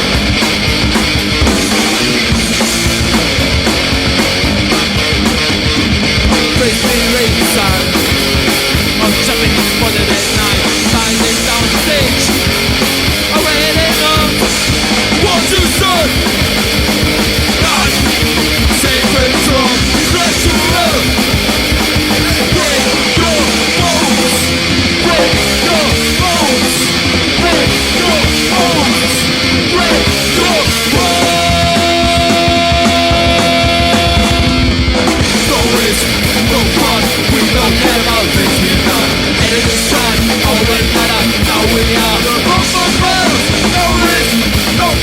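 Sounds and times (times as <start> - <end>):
punk band playing: 0.0 - 45.0.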